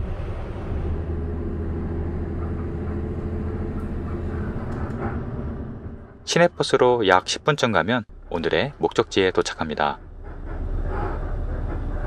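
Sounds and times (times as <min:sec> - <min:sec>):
bus engine low hum: 0:00.0 - 0:12.0
road and cabin noise: 0:00.0 - 0:12.0.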